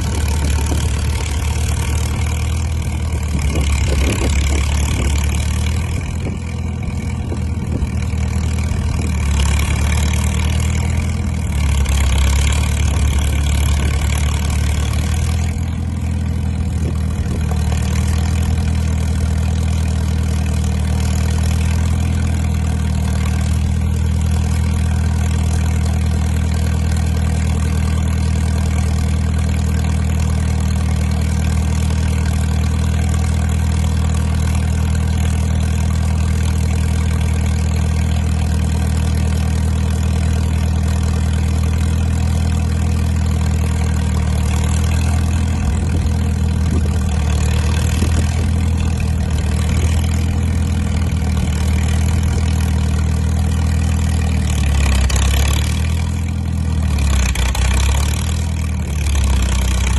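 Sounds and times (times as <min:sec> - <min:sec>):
dozer engine idling: 0:00.0 - 0:59.9.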